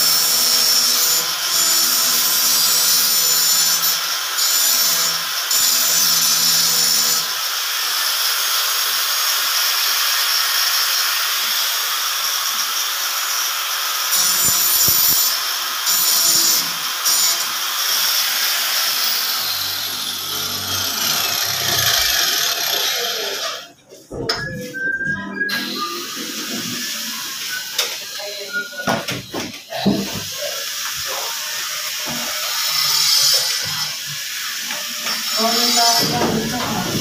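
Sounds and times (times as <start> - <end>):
power drill cutting through board: 0.0 - 23.7, 25.5 - 37.0.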